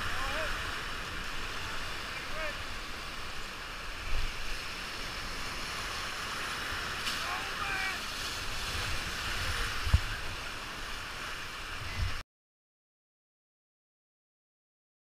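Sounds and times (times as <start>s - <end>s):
whitewater rapid rushing: 0.0s - 12.2s.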